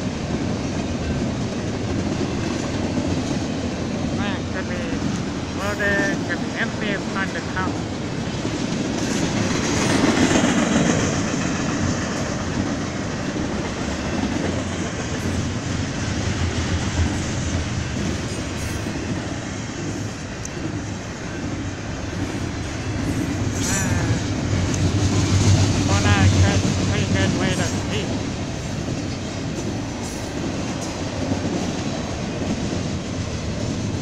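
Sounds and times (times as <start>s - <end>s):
freight train wheels clattering: 6.2s - 34.0s.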